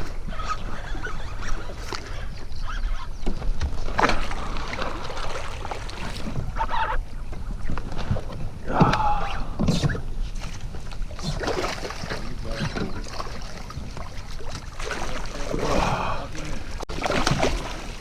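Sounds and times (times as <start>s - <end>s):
water splashing: 3.4s - 18.0s.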